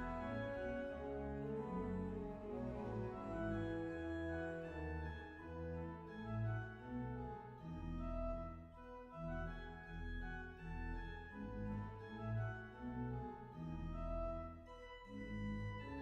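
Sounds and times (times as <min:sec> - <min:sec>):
organ-like keyboard chords: 0:00.0 - 0:16.0.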